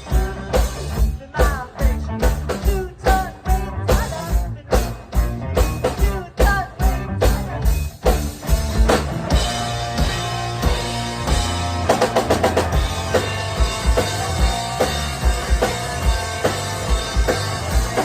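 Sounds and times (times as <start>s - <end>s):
driving drum beat: 0.0s - 18.0s
pop-punk band playing live: 0.0s - 18.0s.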